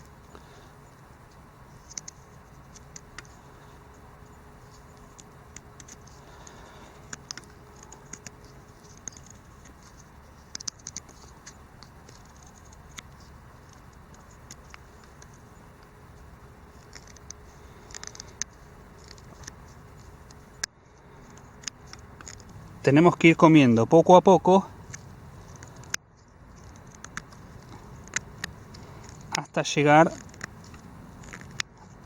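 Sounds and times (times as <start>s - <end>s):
knife carving wood: 0.0s - 23.0s, 24.6s - 29.4s, 30.0s - 32.0s.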